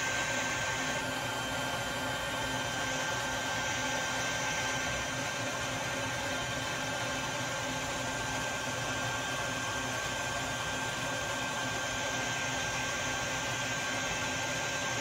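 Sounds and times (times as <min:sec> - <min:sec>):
vacuum motor whirring with whine: 0:00.0 - 0:15.0.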